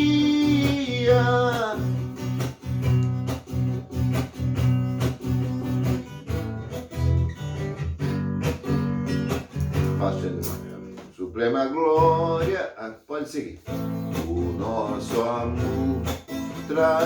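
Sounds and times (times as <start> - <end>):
acoustic guitar strumming chords: 0.0 - 11.1, 12.0 - 12.6, 13.6 - 17.0.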